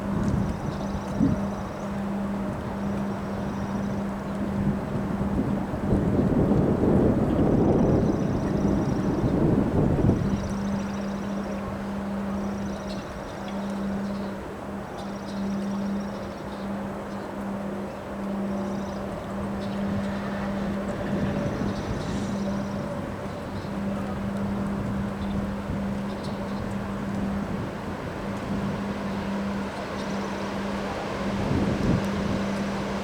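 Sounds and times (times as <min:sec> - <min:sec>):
gusty wind: 0:00.0 - 0:33.0
steady low hum: 0:00.0 - 0:33.0.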